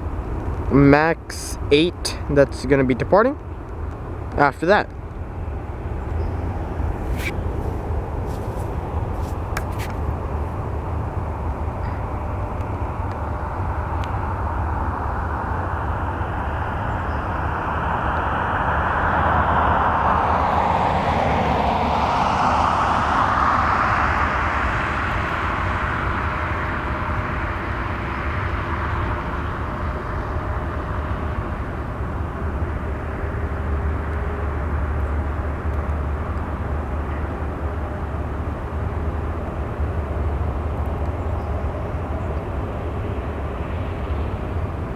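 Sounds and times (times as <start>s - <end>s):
jet airliner passing: 0.0s - 44.9s
steady low rumble: 0.0s - 44.9s.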